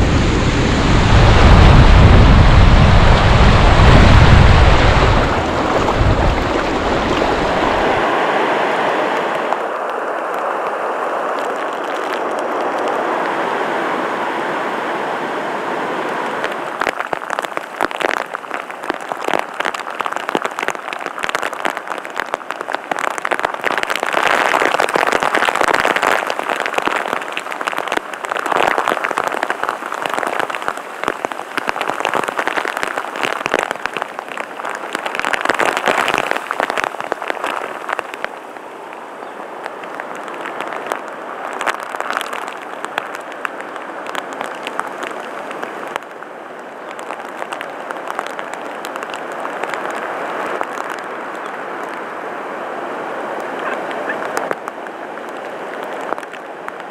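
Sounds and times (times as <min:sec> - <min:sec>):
heavy rain falling into water: 0:00.0 - 0:56.9.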